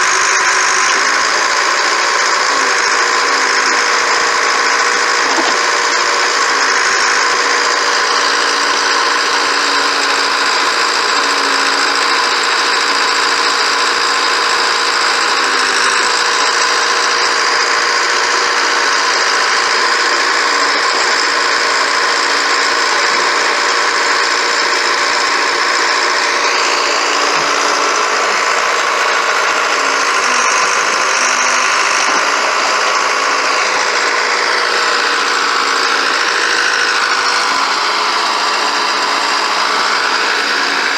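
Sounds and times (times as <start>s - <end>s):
backhoe engine running: 0.0s - 40.9s.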